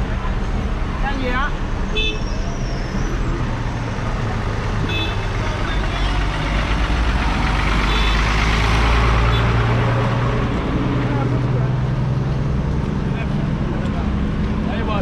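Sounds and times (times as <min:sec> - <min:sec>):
road noise: 0:00.0 - 0:15.0
truck engine rumbling: 0:00.0 - 0:15.0.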